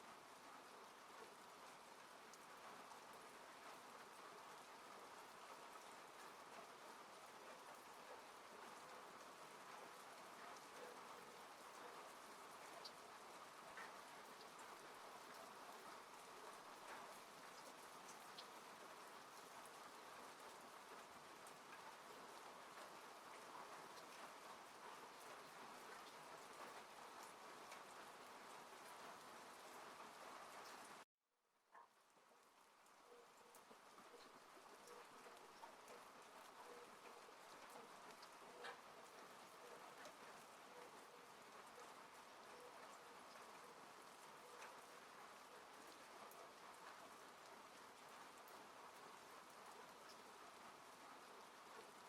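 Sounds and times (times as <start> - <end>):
faint ticks of raindrops: 0.0 - 31.1, 31.7 - 52.0
rain falling on car: 0.1 - 31.0, 33.6 - 52.0.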